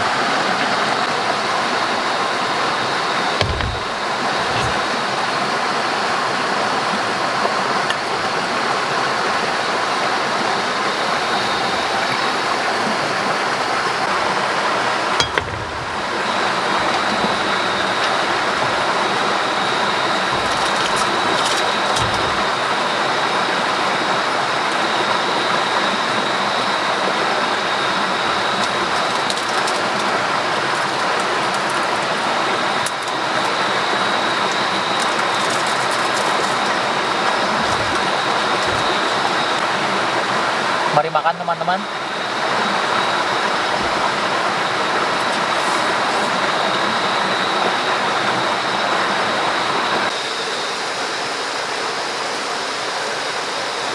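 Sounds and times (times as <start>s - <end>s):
water rushing: 6.6s - 50.1s.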